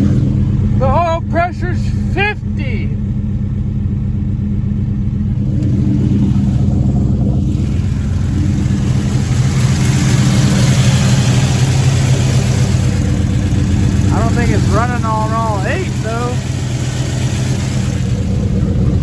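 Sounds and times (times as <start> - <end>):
rough car engine running: 0.0 - 19.0.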